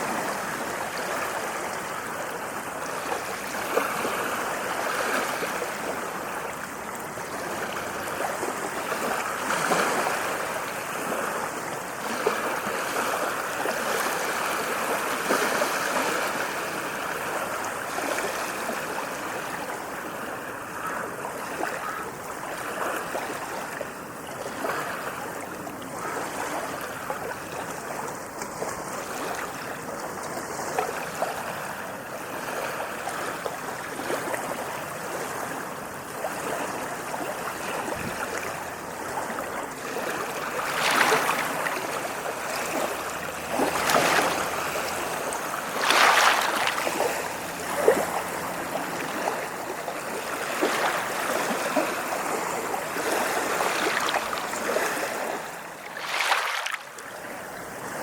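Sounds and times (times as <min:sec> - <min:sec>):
small waves lapping on shore: 0:00.0 - 0:58.0
waves breaking: 0:00.0 - 0:58.0.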